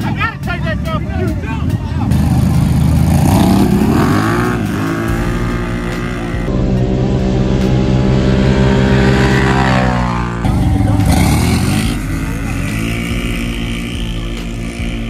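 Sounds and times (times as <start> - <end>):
atv engines revving: 0.0 - 15.0.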